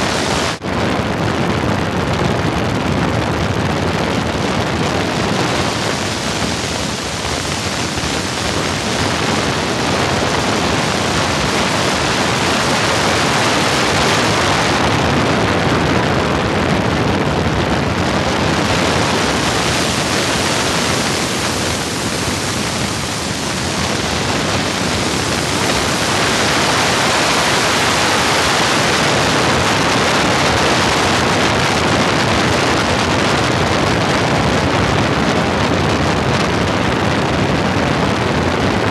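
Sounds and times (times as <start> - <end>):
biplane engine noise: 0.0 - 38.9
wind rush: 0.0 - 38.9.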